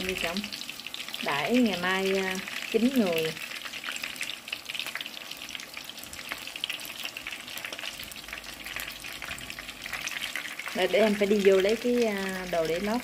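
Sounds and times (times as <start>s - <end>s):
shrimp deep-frying in oil: 0.0s - 13.0s.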